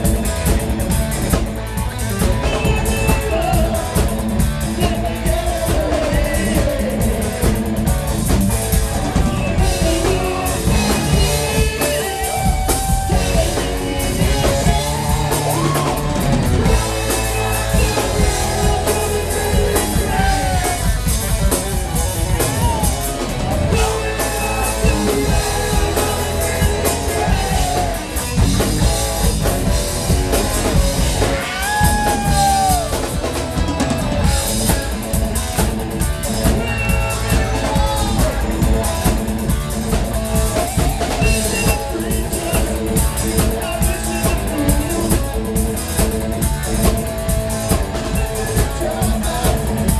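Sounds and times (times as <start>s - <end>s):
bass guitar: 0.0s - 49.9s
drum kit: 0.0s - 49.9s
electric guitar: 0.0s - 49.9s
lead vocalist singing: 2.2s - 29.5s, 36.2s - 39.8s, 40.4s - 49.9s.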